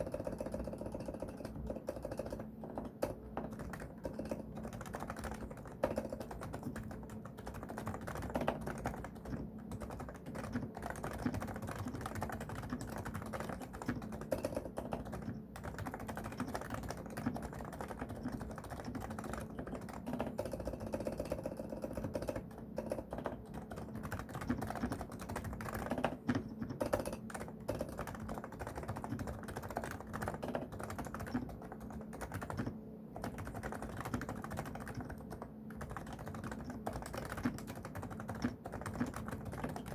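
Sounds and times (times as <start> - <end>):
soft fast keyboard typing: 0.0 - 39.9.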